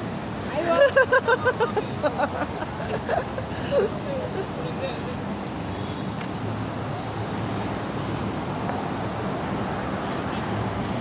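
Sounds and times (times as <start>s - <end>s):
cars passing slowly: 0.0s - 11.0s.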